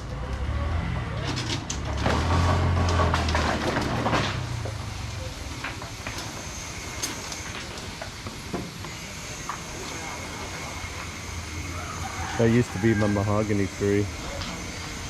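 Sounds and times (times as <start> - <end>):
vehicle engine running nearby: 0.0 - 15.0.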